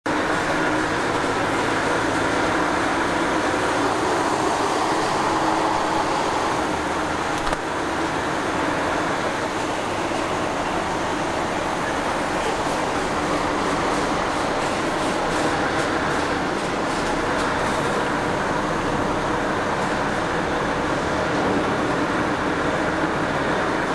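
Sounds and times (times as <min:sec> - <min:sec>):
lorry diesel engine running: 0:00.0 - 0:23.9.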